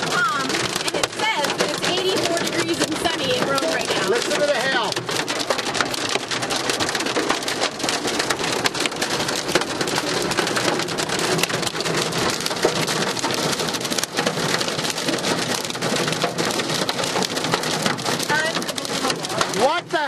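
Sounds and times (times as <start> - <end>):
hail drumming on a car: 0.0 - 20.0.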